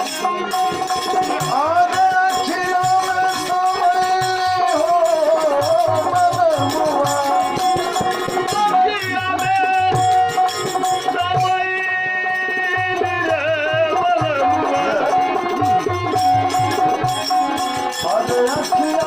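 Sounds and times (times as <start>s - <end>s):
hand drum beat: 0.0s - 19.0s
rattling percussion: 0.0s - 19.0s
sustained melody notes: 0.0s - 19.0s.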